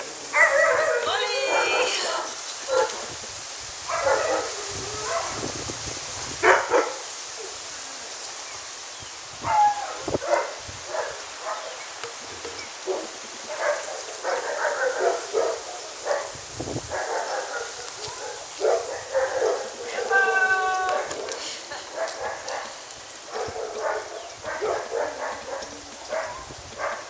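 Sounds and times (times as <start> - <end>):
dogs barking and yipping: 0.0 - 3.2, 3.8 - 5.4, 6.4 - 7.1, 9.4 - 27.0.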